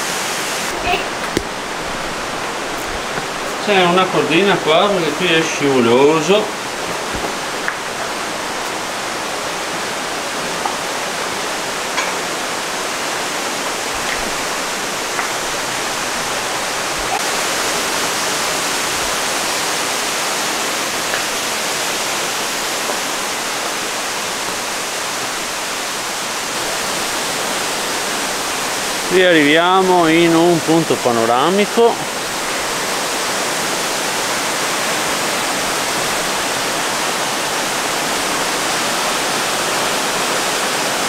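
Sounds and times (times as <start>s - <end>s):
mountain torrent roaring: 0.0s - 41.0s.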